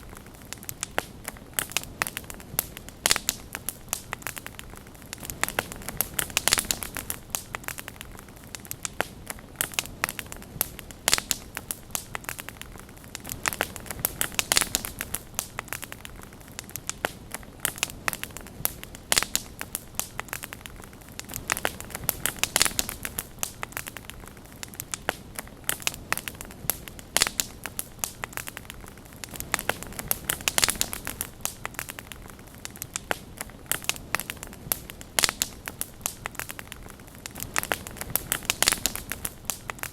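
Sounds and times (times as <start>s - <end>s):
fire hissing: 0.0s - 39.9s
wood fire crackling and popping: 0.0s - 39.9s.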